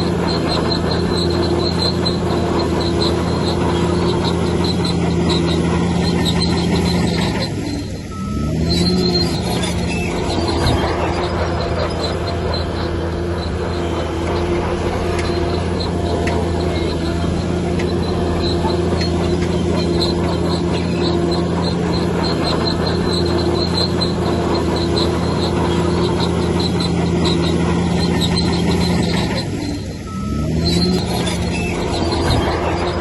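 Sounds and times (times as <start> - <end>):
diesel engine under load: 0.0 - 33.0
steel tracks squealing: 0.0 - 33.0.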